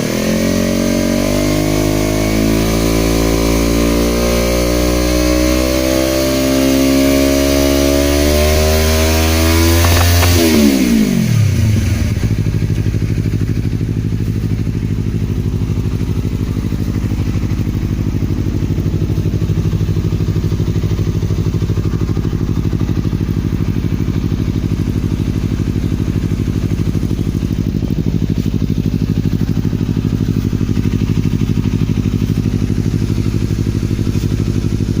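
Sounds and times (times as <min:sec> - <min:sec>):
motorcycle engine idling: 0:06.2 - 0:35.0.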